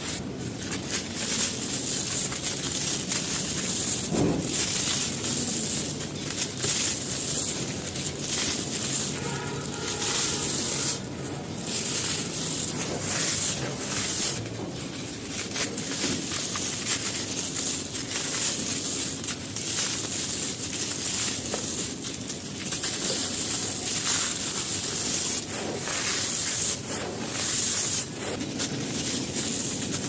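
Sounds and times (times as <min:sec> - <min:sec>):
gritty material crumbled by hand: 0:00.0 - 0:30.0.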